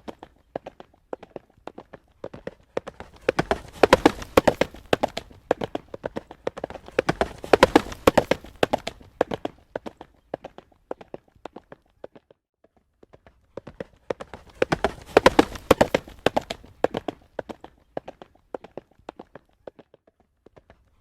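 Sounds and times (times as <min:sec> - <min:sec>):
horse hooves trotting on road: 0:00.0 - 0:21.0.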